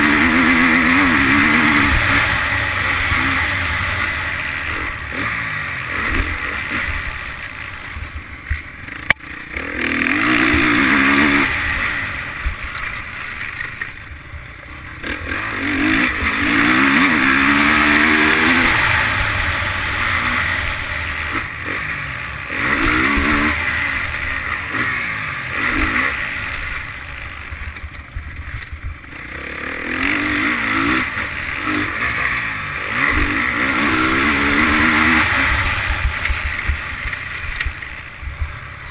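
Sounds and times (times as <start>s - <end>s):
motocross bike engine revving: 0.0s - 27.9s, 28.5s - 38.9s.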